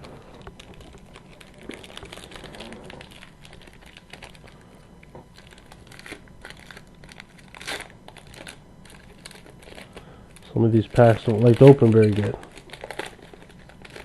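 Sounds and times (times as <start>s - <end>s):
plastic foil wrapper crinkling: 0.0s - 14.0s.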